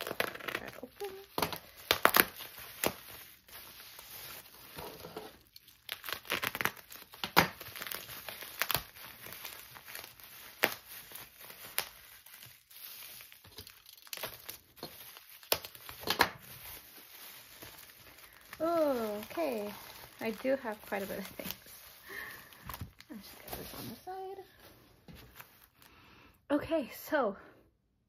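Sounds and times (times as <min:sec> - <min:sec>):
bubble wrap crinkling: 0:00.0 - 0:26.0.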